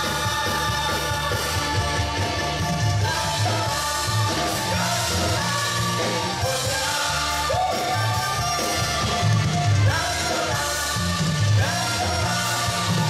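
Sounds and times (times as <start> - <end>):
driving bass beat: 0.0 - 13.0
live band playing pop-rock: 0.0 - 13.0
person singing: 0.0 - 13.0.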